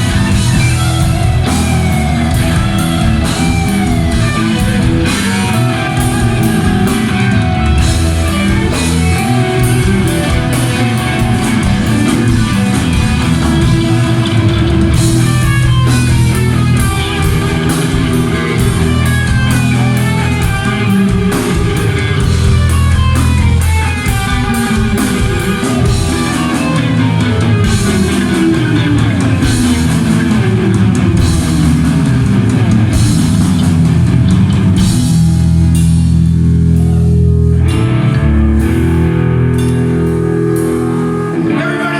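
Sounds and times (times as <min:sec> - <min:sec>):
distorted electric guitar: 0:00.0 - 0:41.9
heavy metal band playing live: 0:00.0 - 0:41.9.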